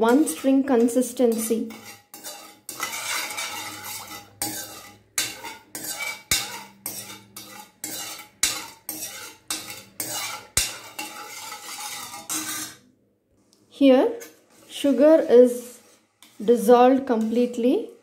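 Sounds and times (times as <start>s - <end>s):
metal spoon scraping a steel pan: 0.0s - 12.9s, 14.1s - 17.7s.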